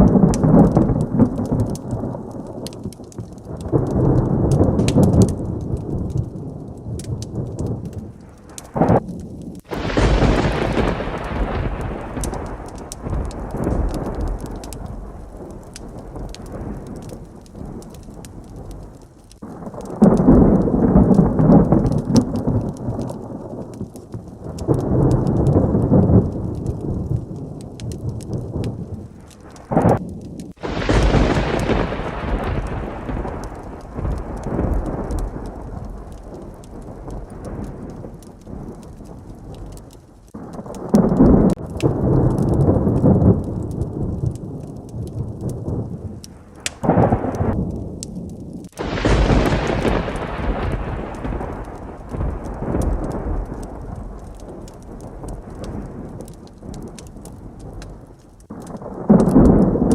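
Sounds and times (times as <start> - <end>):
heavy rain: 0.0 - 59.9
rolling thunder: 0.0 - 59.9
thunderclap: 0.0 - 59.9.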